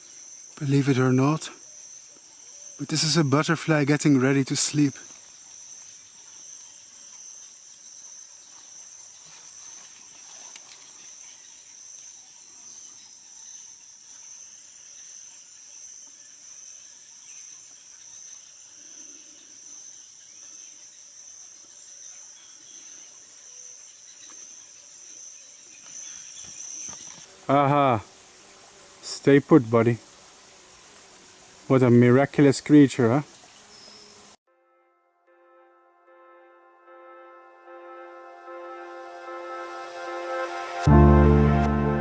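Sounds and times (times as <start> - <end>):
high-pitched insect chorus: 0.0 - 34.4.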